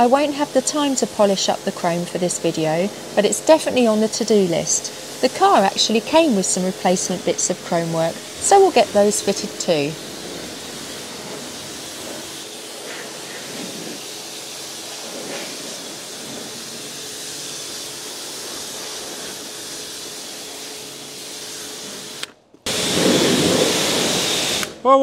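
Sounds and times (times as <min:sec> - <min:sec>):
pressure washer spray hissing: 0:00.0 - 0:25.0.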